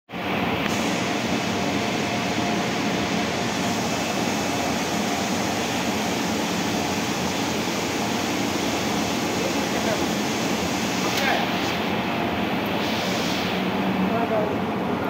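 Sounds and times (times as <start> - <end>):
printing machinery running: 0.1 - 15.0.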